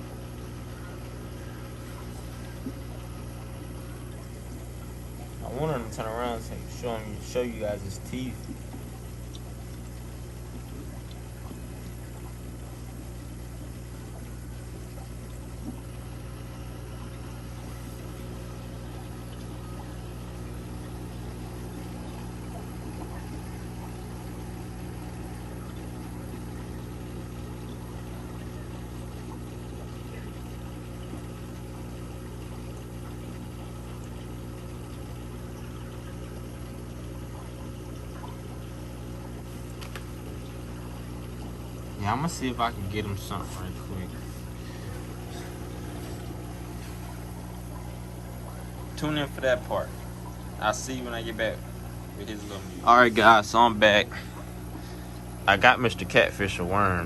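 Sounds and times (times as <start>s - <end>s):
pouring water: 0.0s - 57.0s
pump humming: 0.0s - 57.0s.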